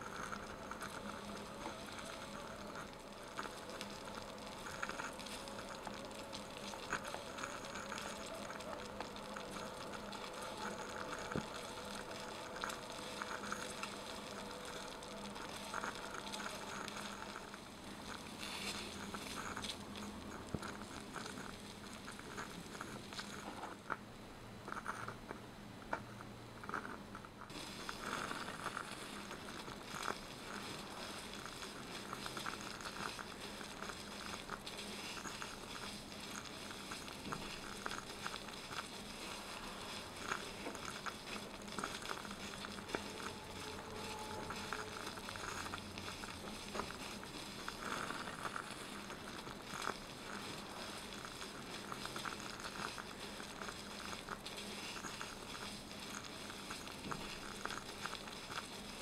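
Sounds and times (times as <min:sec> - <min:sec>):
broth simmering and bubbling: 0:00.0 - 0:59.0.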